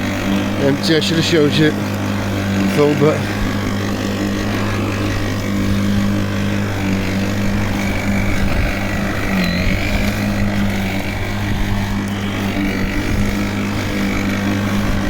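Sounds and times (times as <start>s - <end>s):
lawnmower mowing grass: 0.0s - 15.0s.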